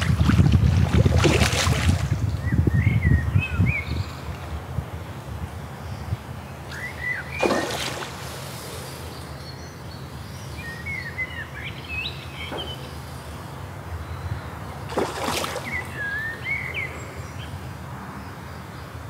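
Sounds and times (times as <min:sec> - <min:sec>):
small birds chirping: 0:01.2 - 0:19.0.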